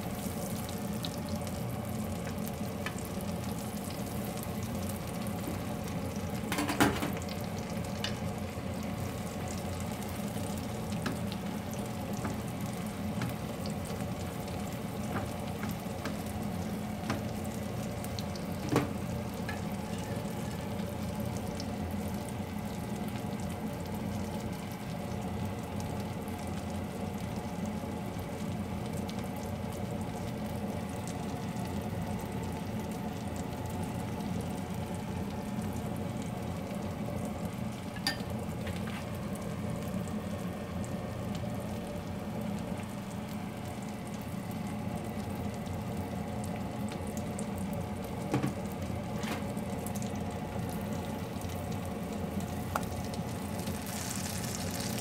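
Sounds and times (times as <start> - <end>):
omelettes sizzling in oil: 0.0 - 55.0.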